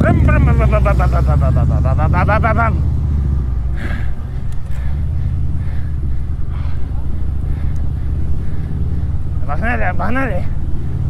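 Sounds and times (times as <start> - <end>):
faint traffic: 0.0 - 11.0.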